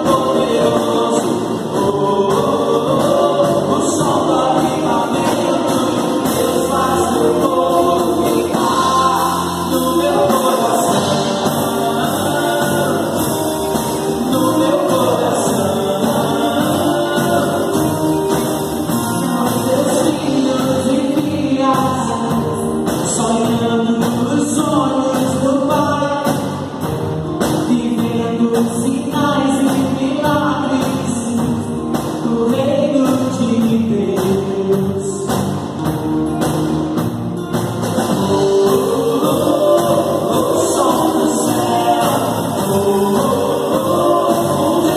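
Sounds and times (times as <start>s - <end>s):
drums steady beat: 0.0s - 44.9s
singers with full band: 0.0s - 44.9s.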